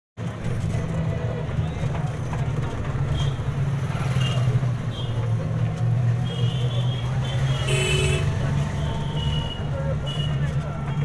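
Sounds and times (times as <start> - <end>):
vehicle engine rumble: 0.2 - 11.0.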